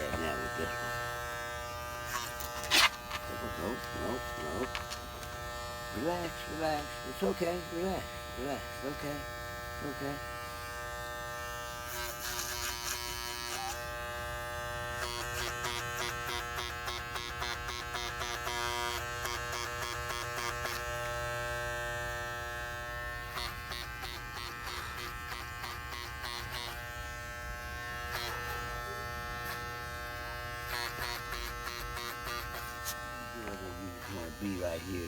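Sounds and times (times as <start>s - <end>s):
electric hair clippers buzzing: 0.0s - 35.0s.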